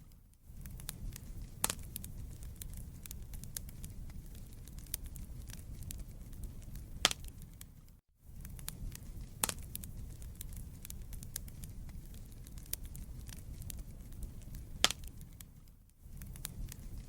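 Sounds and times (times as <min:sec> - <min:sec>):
low rumble of flames: 0:00.0 - 0:17.0
wood fire crackling: 0:00.0 - 0:17.0
loud pops of burning wood: 0:00.1 - 0:07.8, 0:08.4 - 0:17.0.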